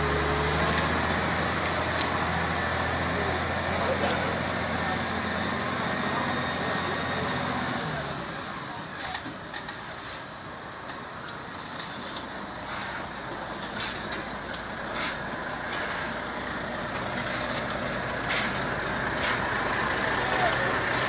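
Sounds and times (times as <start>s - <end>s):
diesel truck engine under heavy load: 0.0s - 21.0s.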